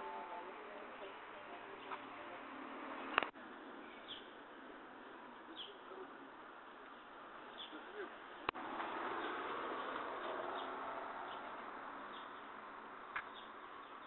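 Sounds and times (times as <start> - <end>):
street background noise: 0.0 - 14.0.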